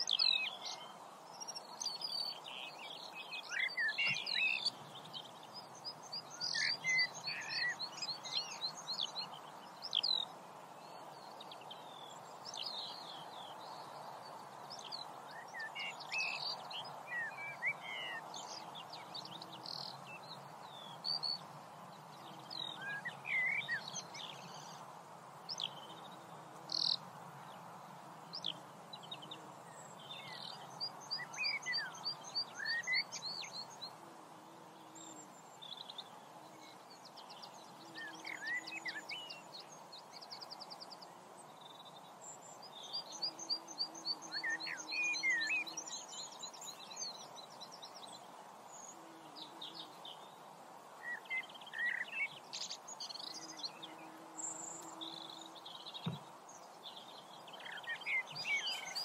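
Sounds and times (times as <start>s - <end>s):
background hiss: 0.0s - 59.0s
songbirds chirping: 0.0s - 59.0s.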